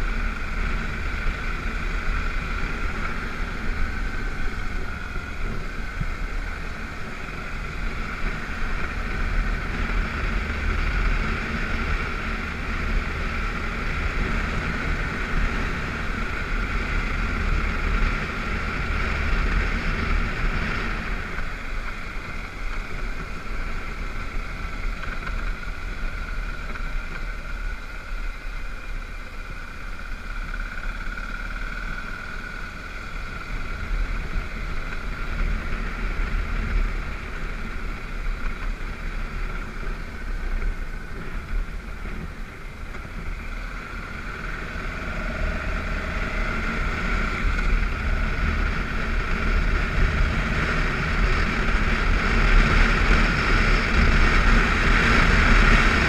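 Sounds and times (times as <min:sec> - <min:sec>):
motorcycle engine running: 0:00.0 - 0:56.0
wind: 0:00.0 - 0:56.0.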